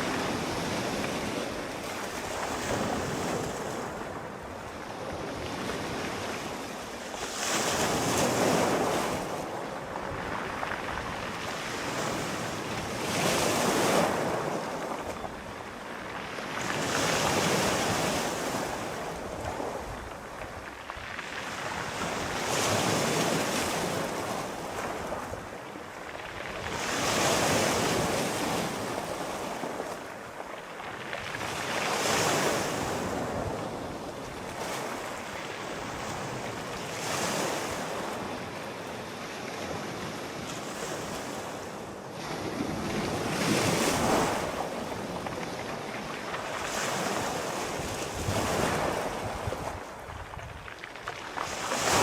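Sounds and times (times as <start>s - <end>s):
sea waves breaking: 0.0s - 52.0s.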